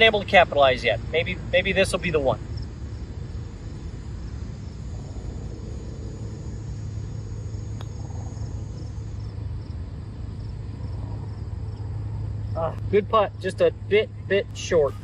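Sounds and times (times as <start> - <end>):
insects chirping: 0.0 - 15.0
steady low rumble: 0.0 - 15.0.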